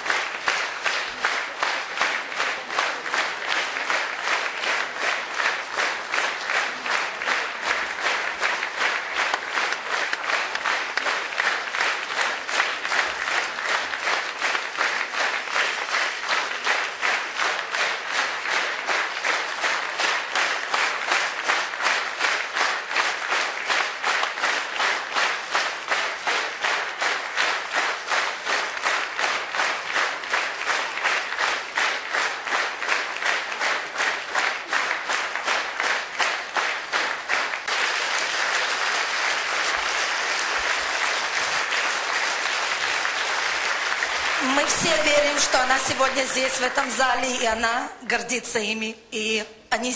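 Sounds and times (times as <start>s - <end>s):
audience applauding: 0.0s - 47.6s.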